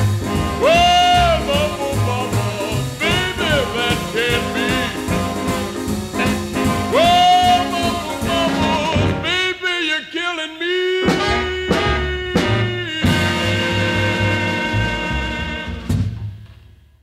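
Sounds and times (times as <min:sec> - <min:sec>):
swing jazz with brass: 0:00.0 - 0:09.5, 0:11.0 - 0:16.4.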